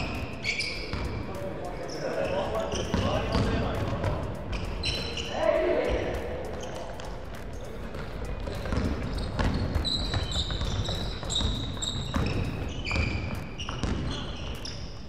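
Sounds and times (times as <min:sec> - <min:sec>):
basketball bouncing on gym floor: 0:00.0 - 0:05.2, 0:05.9 - 0:15.0
sneakers squeaking on court: 0:00.0 - 0:15.0.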